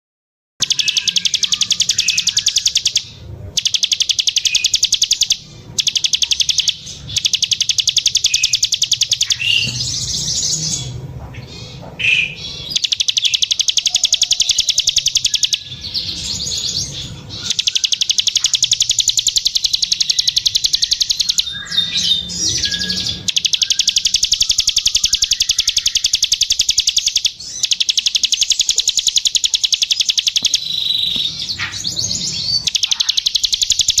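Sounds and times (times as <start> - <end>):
bird singing fast ticking trills: 0.6 - 11.0, 12.1 - 34.0.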